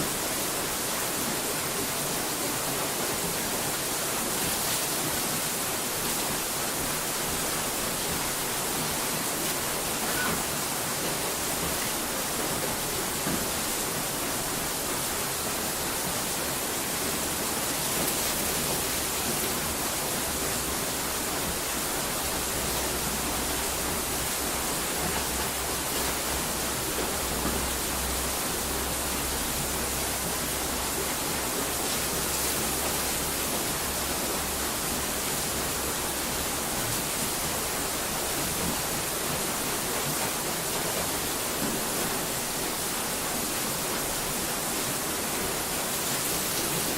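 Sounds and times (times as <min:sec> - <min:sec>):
steady broadband hiss: 0:00.0 - 0:46.9.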